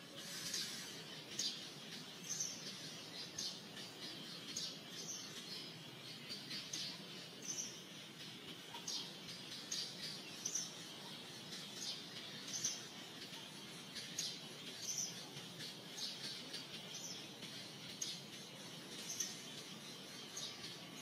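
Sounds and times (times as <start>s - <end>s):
faint steady hiss: 0.0s - 21.0s
small birds chirping: 0.0s - 21.0s.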